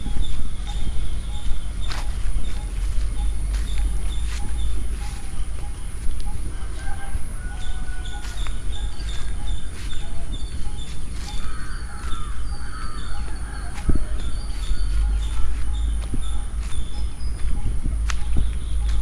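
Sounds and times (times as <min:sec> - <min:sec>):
birds chirping and calling: 0:00.0 - 0:19.0
steady low rumble: 0:00.0 - 0:19.0.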